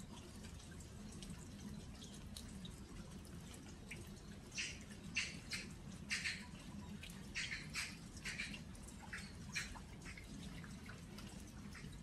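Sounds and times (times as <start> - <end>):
rain dripping onto earthenware: 0.0 - 12.0.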